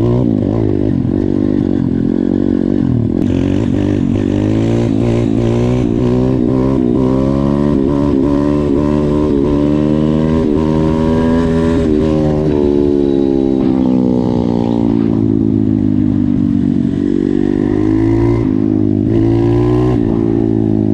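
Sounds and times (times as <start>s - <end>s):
motorbike engine revving: 0.0s - 20.9s.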